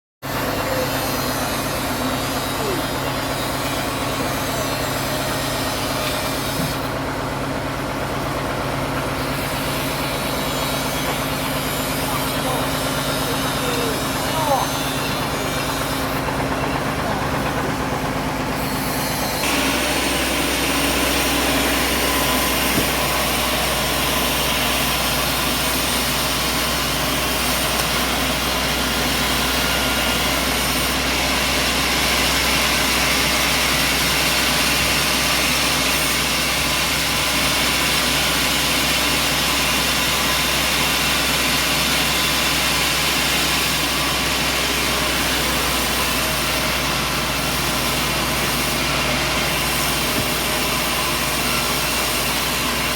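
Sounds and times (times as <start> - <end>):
machine engine humming: 0.2 - 52.9.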